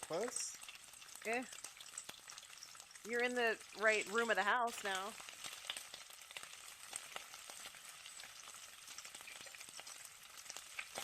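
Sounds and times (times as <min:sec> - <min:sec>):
bacon sizzling with crackles: 0:00.0 - 0:11.0.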